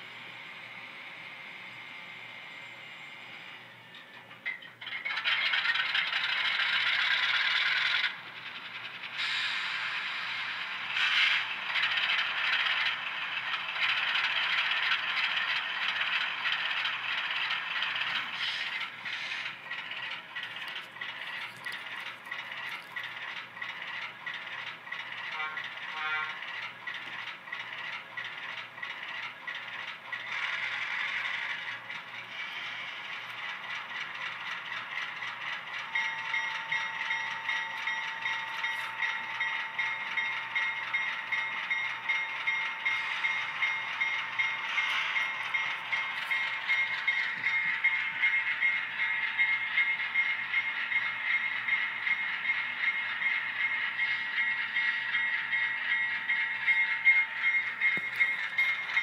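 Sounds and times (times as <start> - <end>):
model train wheels clattering: 3.9 - 59.0.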